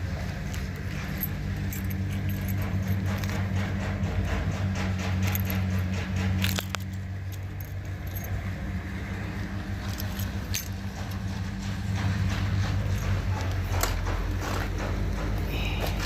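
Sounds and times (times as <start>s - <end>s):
steady low hum: 0.0s - 16.0s
metallic latch clicks and jangling: 0.4s - 8.8s, 9.4s - 14.5s.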